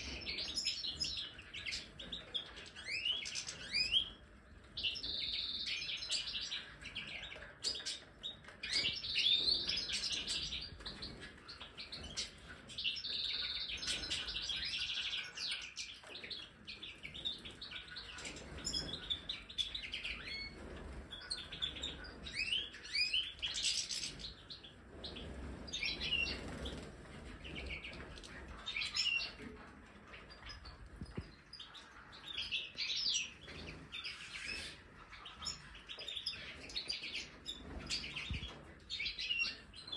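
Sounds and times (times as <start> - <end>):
finches twittering and chirping: 0.0 - 39.9.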